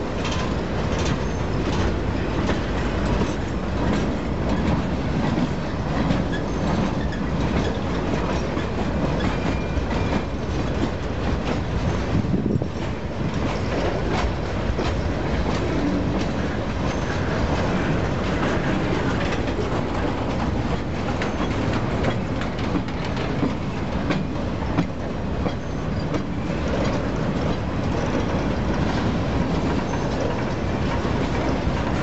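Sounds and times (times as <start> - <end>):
train wheels rumbling on rail: 0.0 - 32.0
wheels clunking over rail joints: 0.0 - 32.0.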